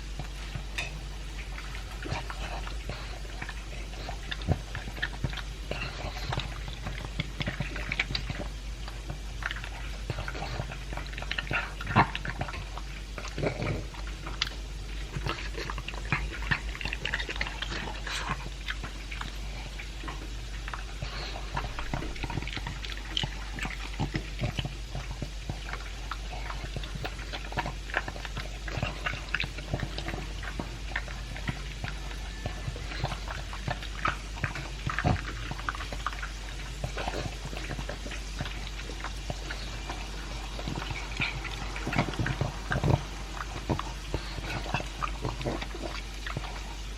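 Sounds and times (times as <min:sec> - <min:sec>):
dog crunching dry kibble: 0:00.0 - 0:46.9.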